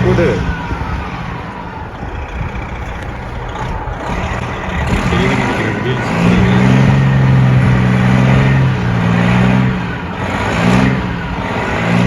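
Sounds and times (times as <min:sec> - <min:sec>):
heavy vehicle engine under load: 0:00.0 - 0:12.0.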